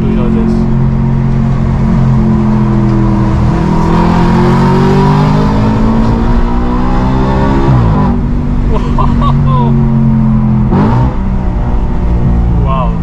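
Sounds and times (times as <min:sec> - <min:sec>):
car exhaust note: 0:00.0 - 0:13.0.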